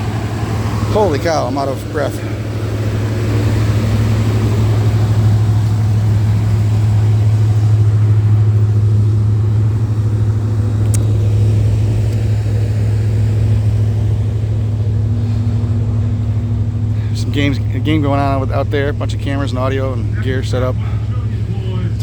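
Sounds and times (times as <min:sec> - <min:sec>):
large engine droning: 0:00.0 - 0:22.0.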